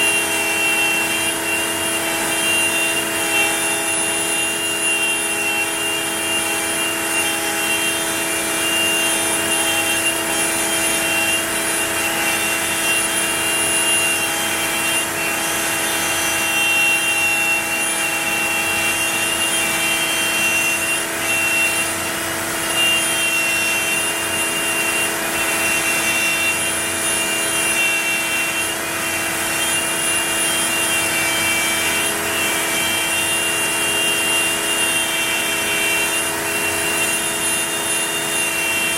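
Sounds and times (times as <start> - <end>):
router motor whining: 0.0 - 38.9.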